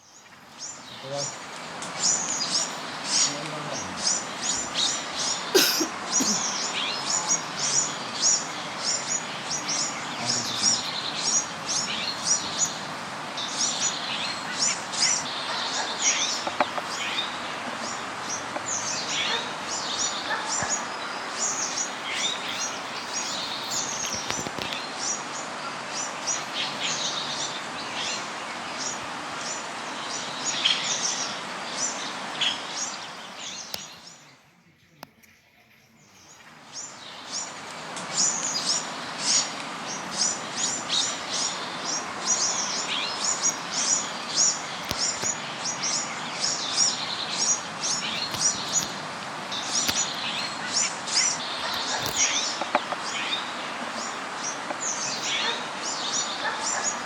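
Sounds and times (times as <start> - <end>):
small birds chirping: 0.0 - 57.0
steady background hiss: 0.0 - 57.0.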